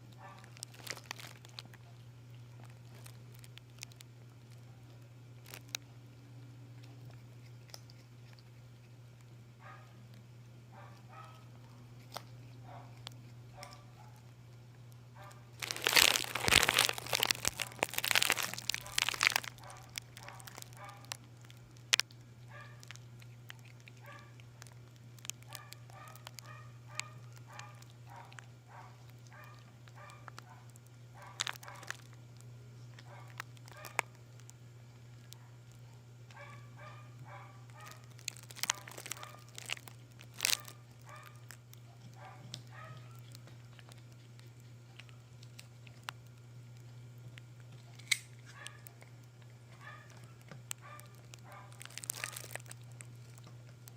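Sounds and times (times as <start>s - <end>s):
kitten chewing crunchy peels: 0.0s - 53.9s
steady low hum: 0.0s - 53.9s.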